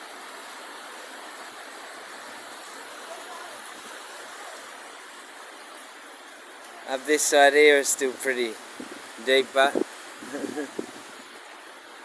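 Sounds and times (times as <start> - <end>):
water rushing in creek: 0.0 - 12.0.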